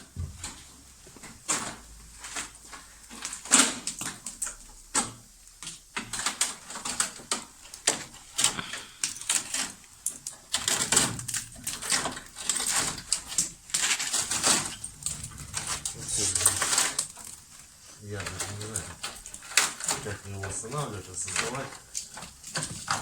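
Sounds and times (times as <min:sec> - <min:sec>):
rapid irregular clicking and crackling: 0:00.0 - 0:23.0.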